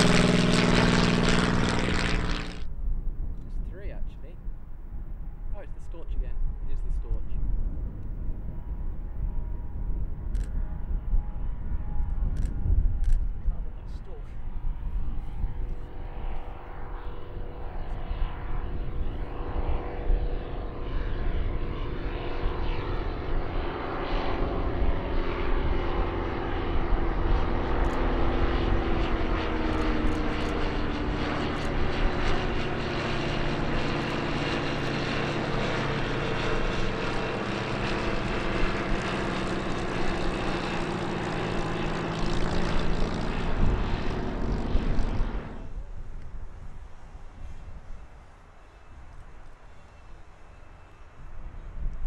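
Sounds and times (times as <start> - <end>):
propeller aircraft flying past: 0.0 - 52.0.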